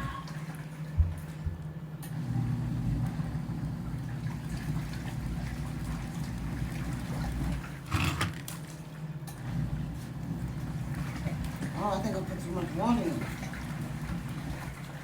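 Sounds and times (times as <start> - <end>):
agitator churning water: 0.0 - 15.0
washing machine motor hum: 0.0 - 15.0.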